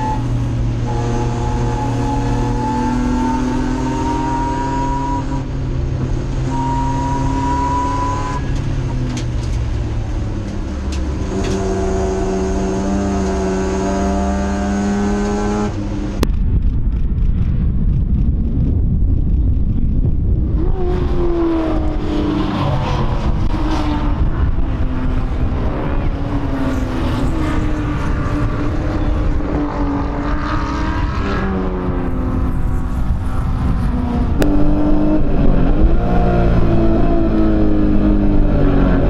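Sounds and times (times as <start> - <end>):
race cars passing: 0.0 - 16.2, 20.4 - 39.0
race car engine from inside cabin: 0.0 - 16.3, 19.1 - 39.0.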